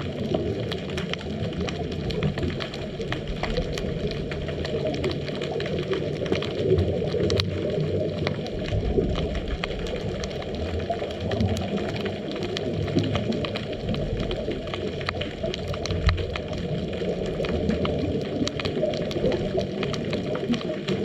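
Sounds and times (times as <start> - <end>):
faint underwater clicks and crackles: 0.0 - 21.0
muffled underwater rumble: 0.0 - 21.0.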